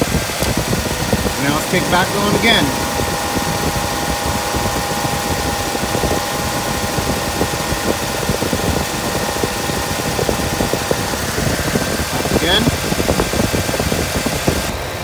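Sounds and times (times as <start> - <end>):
ac compressor steady tone: 0.0 - 15.0
car engine idling: 0.0 - 15.0.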